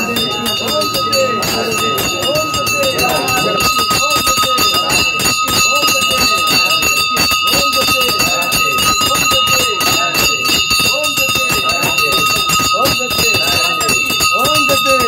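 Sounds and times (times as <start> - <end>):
people's voices: 0.0 - 15.0
temple bells ringing: 0.0 - 15.0.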